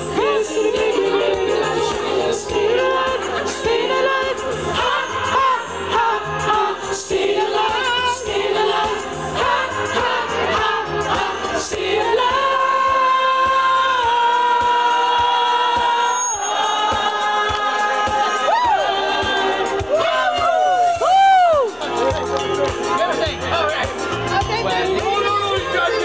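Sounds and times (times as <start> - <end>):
music with steady beat: 0.0 - 26.0
several voices singing: 0.0 - 26.0.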